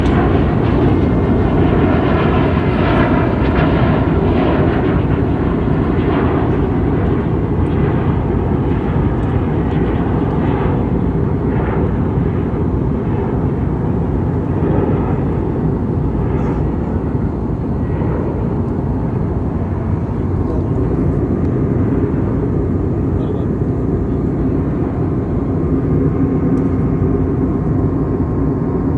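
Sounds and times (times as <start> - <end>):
airliner cabin engine rush: 0.0 - 28.9.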